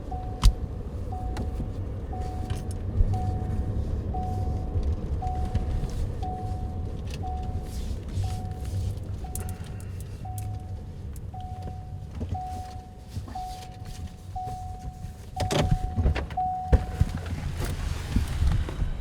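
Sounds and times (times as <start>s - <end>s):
car warning chime: 0.0s - 17.2s
low engine rumble: 0.0s - 19.0s.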